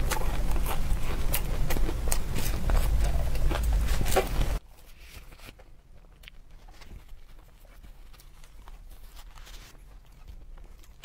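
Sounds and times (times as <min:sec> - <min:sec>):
loud crackly chewing: 0:00.0 - 0:04.6, 0:05.3 - 0:11.0.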